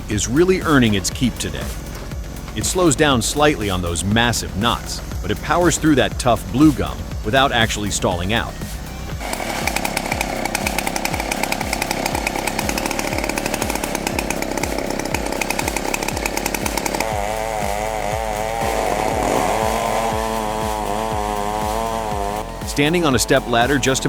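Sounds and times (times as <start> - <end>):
chainsaw milling log: 0.0 - 24.0
engine running under load: 0.0 - 24.0.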